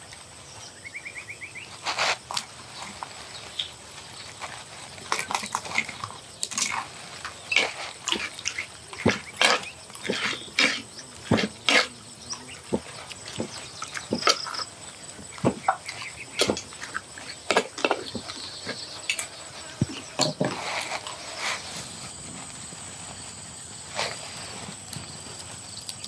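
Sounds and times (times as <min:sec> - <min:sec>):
faint insect drone: 0:00.0 - 0:26.0
person chewing and crunching food: 0:01.8 - 0:26.0.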